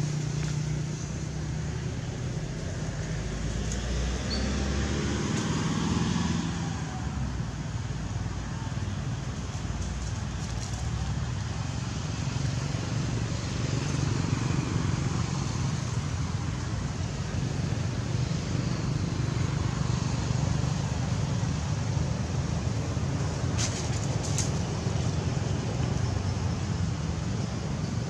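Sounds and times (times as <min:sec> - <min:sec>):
outdoor background rumble and hiss: 0:00.0 - 0:28.0.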